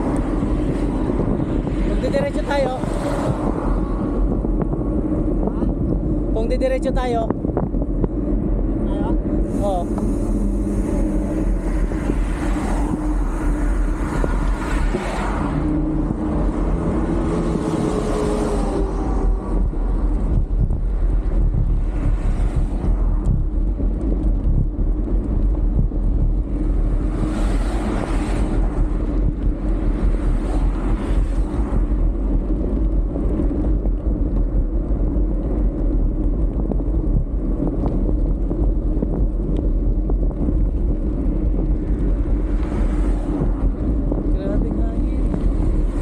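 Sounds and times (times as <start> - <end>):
bike tyre rolling on asphalt: 0.0 - 46.0
wind buffeting microphone: 0.0 - 46.0.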